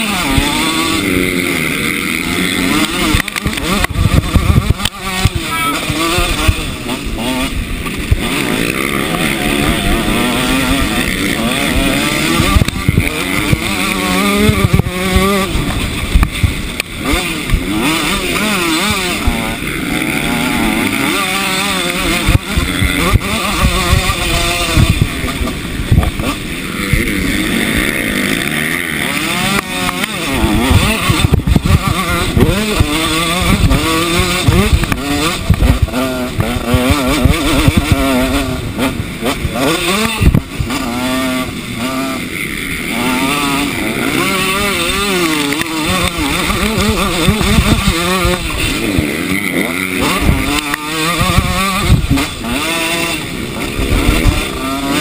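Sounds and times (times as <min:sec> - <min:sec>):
wind rumbling on microphone: 0:00.0 - 0:21.0, 0:21.7 - 0:28.5, 0:29.4 - 0:55.0
motocross bike engine revving: 0:00.0 - 0:55.0.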